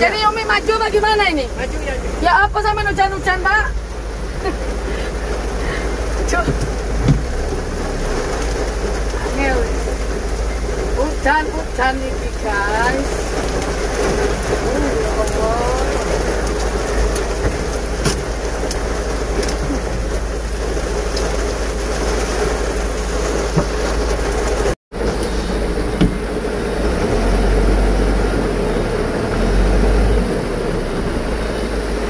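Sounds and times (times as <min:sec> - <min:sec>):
heavy rain on truck cab: 0:00.0 - 0:32.0
truck engine running: 0:00.0 - 0:32.0.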